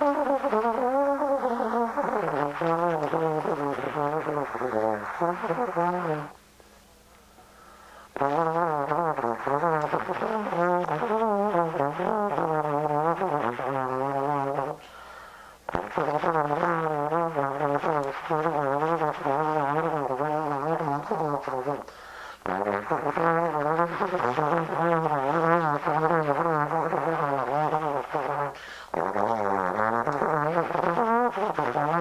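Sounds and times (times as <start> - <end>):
solo trombone improvising: 0.0 - 6.6, 8.0 - 14.9, 15.7 - 32.0.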